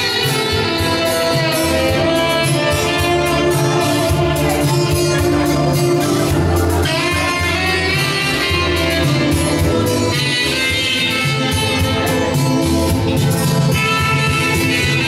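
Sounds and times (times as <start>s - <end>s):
live band dance music: 0.0s - 15.0s
saxophone melody: 0.0s - 15.0s
steady bass: 0.0s - 15.0s.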